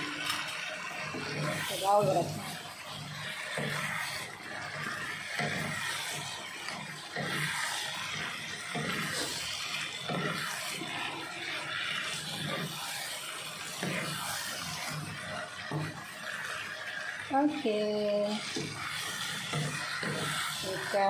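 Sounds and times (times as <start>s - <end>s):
gravy bubbling and sloshing: 0.0s - 17.4s, 18.1s - 21.0s
wooden spatula strokes: 1.1s - 21.0s.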